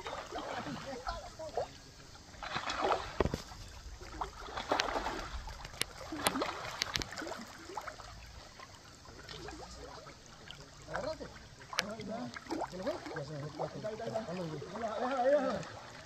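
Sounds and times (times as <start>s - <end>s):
river water running: 0.0s - 16.0s.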